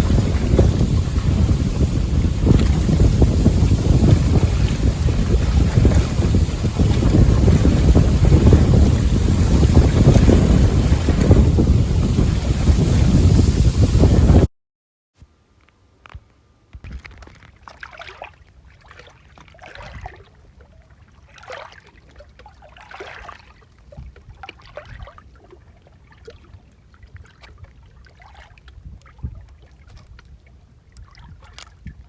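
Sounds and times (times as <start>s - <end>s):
lake water lapping and splashing: 0.0s - 14.4s, 16.8s - 32.0s.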